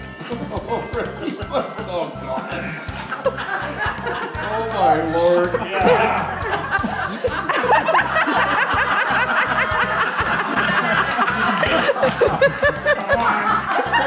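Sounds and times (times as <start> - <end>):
background music with beat: 0.0 - 14.0
group of people laughing: 2.4 - 14.0.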